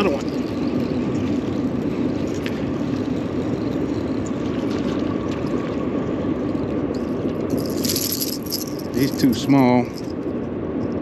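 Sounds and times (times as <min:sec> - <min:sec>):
water rushing around boat: 0:00.0 - 0:10.0.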